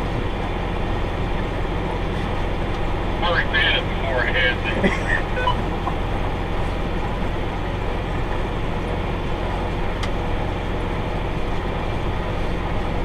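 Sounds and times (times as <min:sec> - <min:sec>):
tractor and baler droning: 0:00.0 - 0:13.0.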